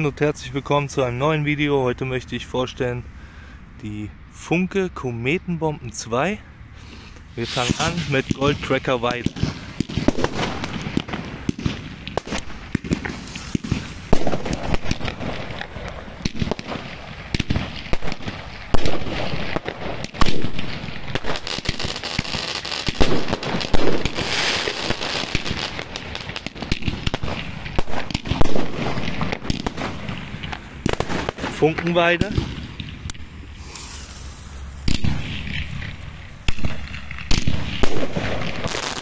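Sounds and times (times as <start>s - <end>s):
firework crackling: 6.8s - 39.0s
firework bangs: 6.9s - 39.0s.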